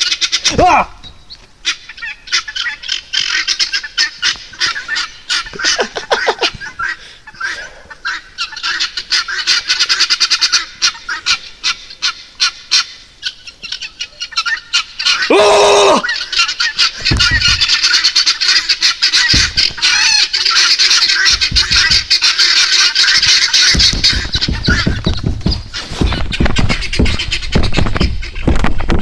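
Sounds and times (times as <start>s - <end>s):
flock of birds calling: 0.0s - 28.9s.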